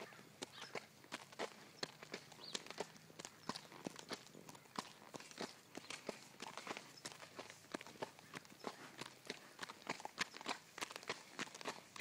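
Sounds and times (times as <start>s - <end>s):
horse hoofbeats at a walk: 0.0s - 12.0s.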